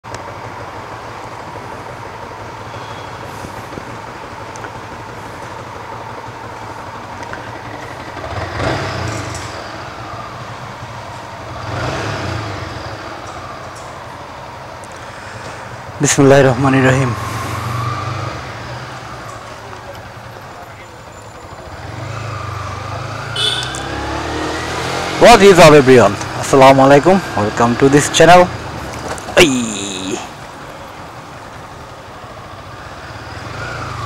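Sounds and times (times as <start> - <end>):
low engine rumble: 0.0 - 23.9, 25.6 - 34.0
vehicles passing: 0.0 - 34.0.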